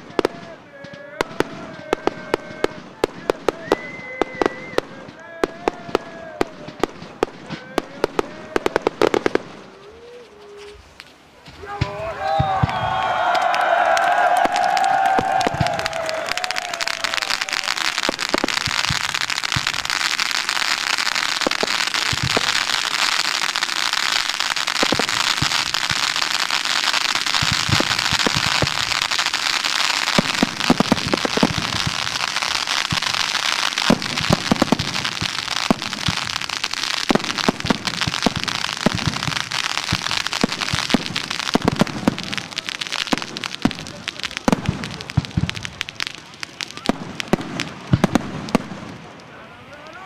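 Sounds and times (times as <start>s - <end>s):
firework crackling: 0.0s - 50.0s
firework fountains hissing: 0.0s - 50.0s.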